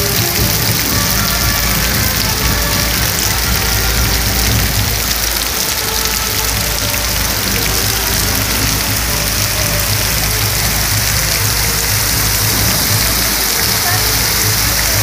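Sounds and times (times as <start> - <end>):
torrential rain on pavement: 0.0 - 15.0.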